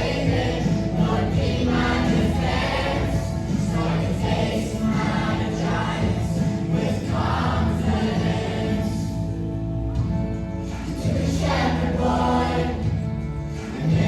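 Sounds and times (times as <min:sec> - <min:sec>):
young voices choir singing: 0:00.0 - 0:09.3, 0:10.9 - 0:13.0.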